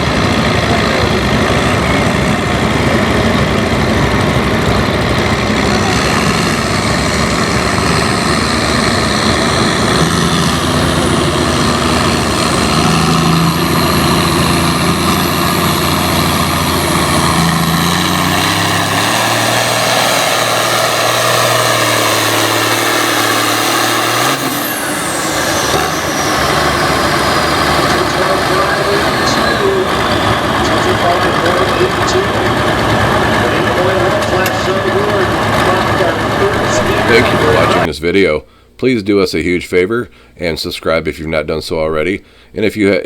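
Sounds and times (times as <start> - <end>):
short falling whine: 0.0 - 37.9
tractor engine running: 0.0 - 37.9.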